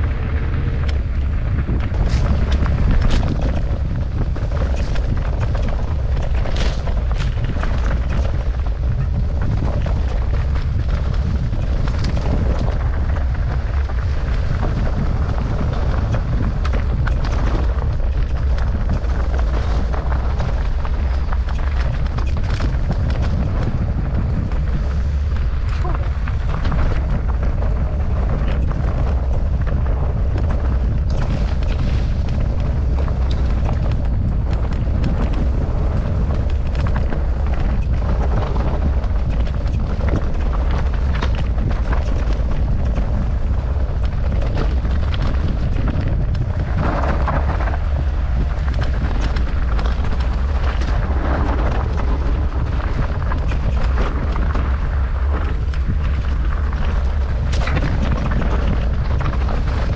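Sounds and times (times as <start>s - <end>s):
bike clattering over rough ground: 0.0s - 59.9s
bike tyres rolling: 0.0s - 59.9s
wind buffeting microphone: 0.0s - 59.9s.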